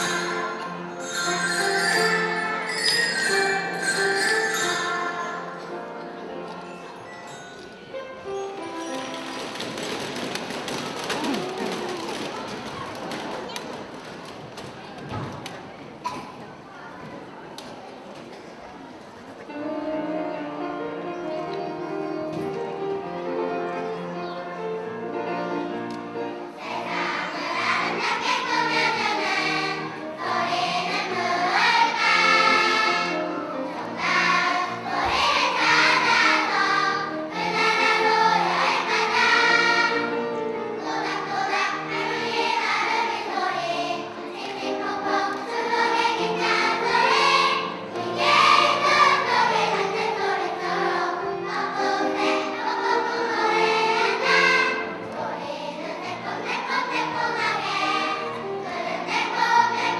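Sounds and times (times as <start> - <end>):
children's choir singing: 0.0 - 59.9
grand piano: 0.0 - 59.9.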